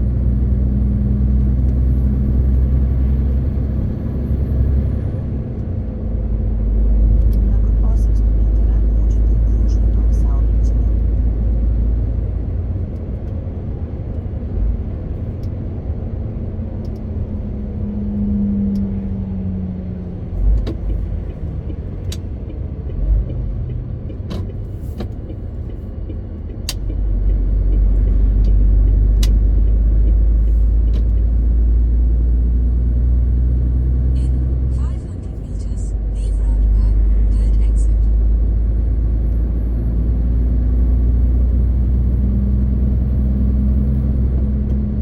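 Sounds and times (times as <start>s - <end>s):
diesel truck engine rumble: 0.0s - 45.0s.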